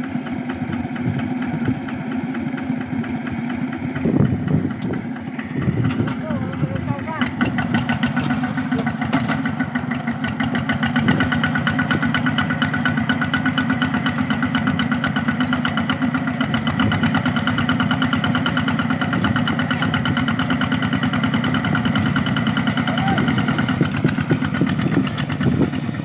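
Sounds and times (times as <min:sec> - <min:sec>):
hand tractor engine chugging: 0:00.0 - 0:26.0.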